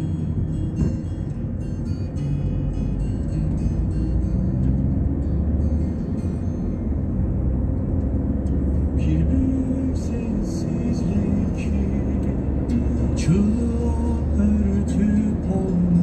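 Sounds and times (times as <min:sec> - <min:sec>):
car driving on road rumble: 0:00.0 - 0:16.0.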